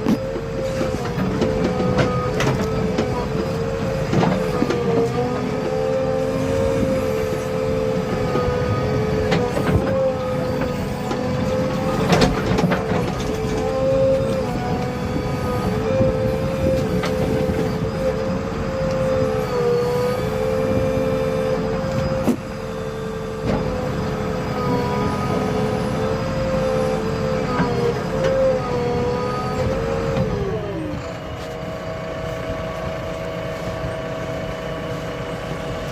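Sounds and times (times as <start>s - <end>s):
heavy diesel machine whining: 0.0s - 35.9s.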